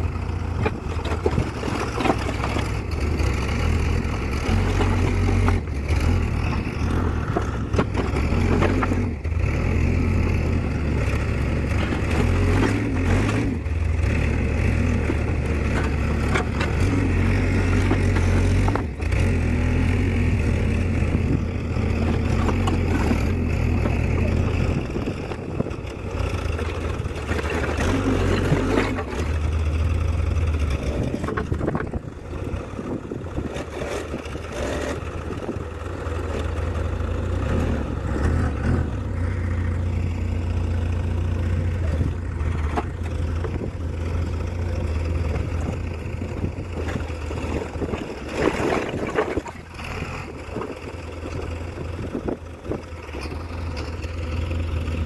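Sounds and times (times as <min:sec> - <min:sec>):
diesel excavator engine: 0:00.0 - 0:55.0.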